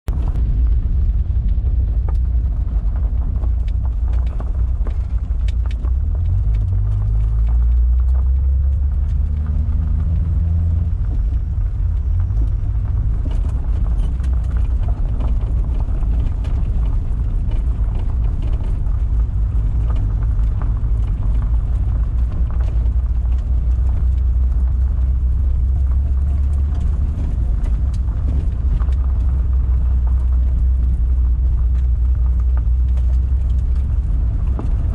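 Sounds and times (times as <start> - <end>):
car engine running: 0.1 - 34.9.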